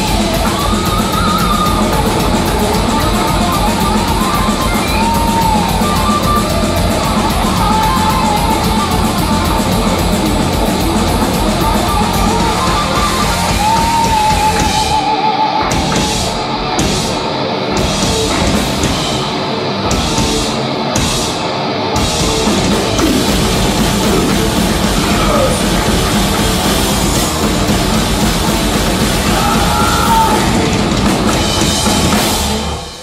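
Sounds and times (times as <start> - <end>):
metal band playing live: 0.0 - 33.0.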